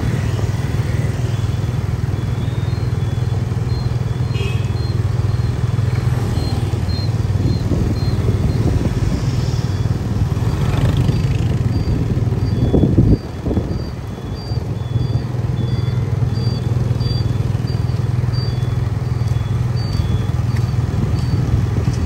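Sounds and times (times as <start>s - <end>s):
motorbike engine running: 0.0s - 22.0s
street traffic: 0.0s - 22.0s.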